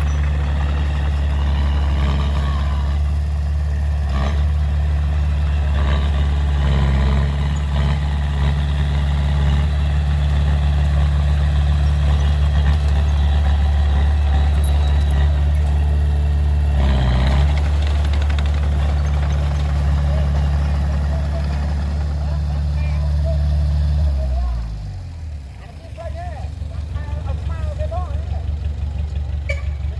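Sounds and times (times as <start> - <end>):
heavy diesel engine rumbling: 0.0 - 29.9.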